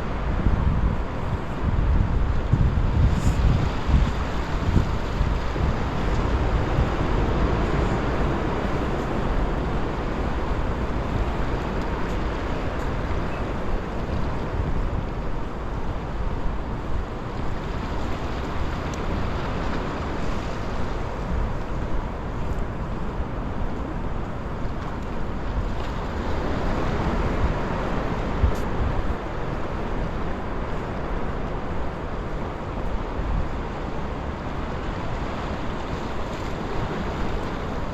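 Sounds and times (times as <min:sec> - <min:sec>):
surf washing against rocks: 0:00.0 - 0:37.9
wind buffeting microphone: 0:00.0 - 0:37.9.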